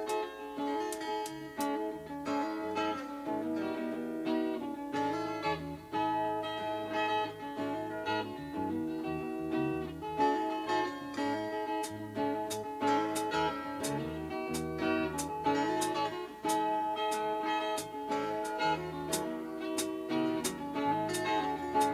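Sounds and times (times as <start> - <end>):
guitar music: 0.0 - 21.9.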